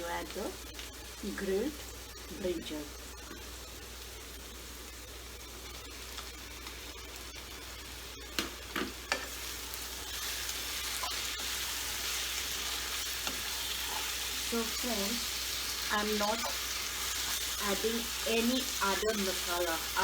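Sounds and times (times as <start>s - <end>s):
onions sizzling in a pan: 0.0s - 20.0s.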